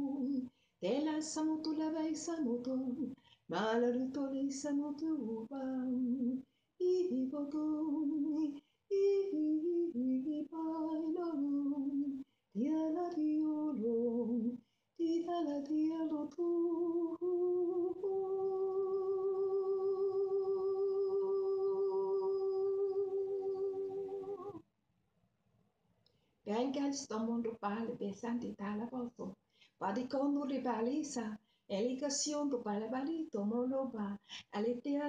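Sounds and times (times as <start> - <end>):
woman singing unaccompanied: 0.0 - 24.6, 26.5 - 35.0.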